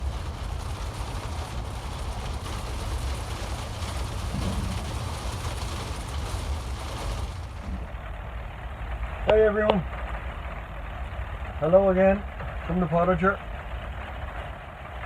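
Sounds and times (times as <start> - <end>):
low rumble: 0.0 - 15.0
rain drumming on plastic panels: 0.0 - 15.0.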